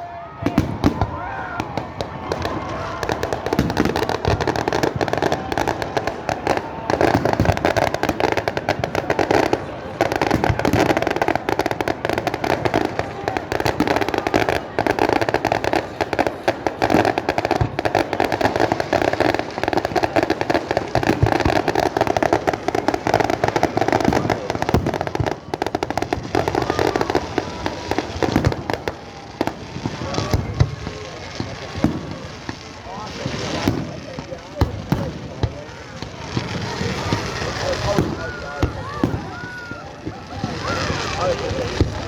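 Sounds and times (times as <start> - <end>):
fireworks crackling and banging: 0.0 - 42.0
whistling rockets: 0.0 - 42.0.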